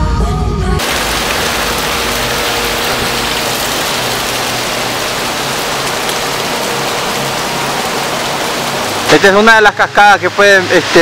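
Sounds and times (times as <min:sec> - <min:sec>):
waterfall splashing on rock: 0:00.8 - 0:11.0.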